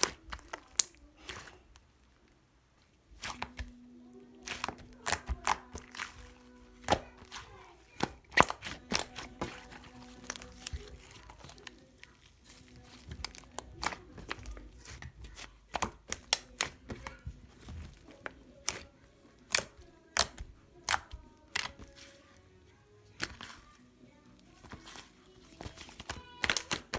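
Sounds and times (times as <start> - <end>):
slime crackling and tearing: 0.0 - 1.8, 3.1 - 23.8, 24.5 - 26.9.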